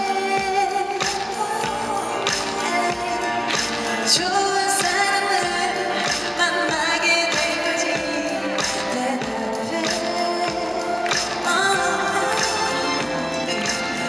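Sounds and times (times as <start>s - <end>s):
pop music with steady beat: 0.0s - 14.0s
woman singing into microphone: 0.0s - 14.0s.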